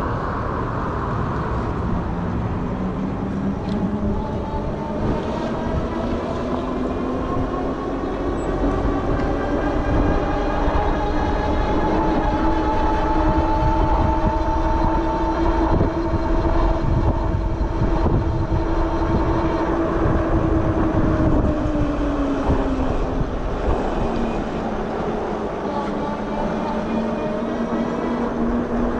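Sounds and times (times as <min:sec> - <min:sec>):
electric hub motor whining: 0:00.0 - 0:28.9
steady low rumble: 0:00.0 - 0:28.9.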